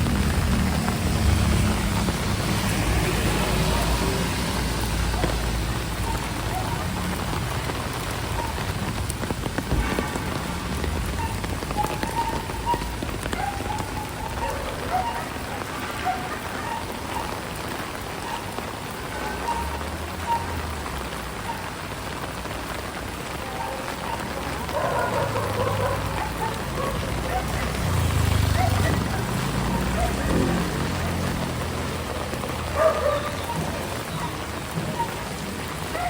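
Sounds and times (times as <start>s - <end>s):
heavy rain on hard surfaces: 0.0s - 36.0s.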